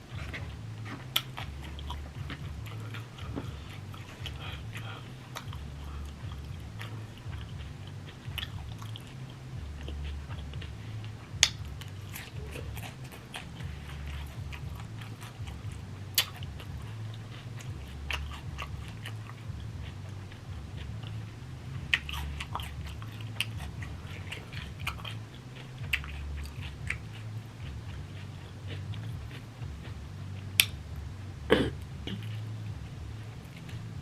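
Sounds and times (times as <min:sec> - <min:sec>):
low rumble: 0:00.0 - 0:34.0
person chewing food: 0:00.0 - 0:34.0
wet mouth clicks and smacks: 0:00.1 - 0:21.2, 0:21.9 - 0:30.8.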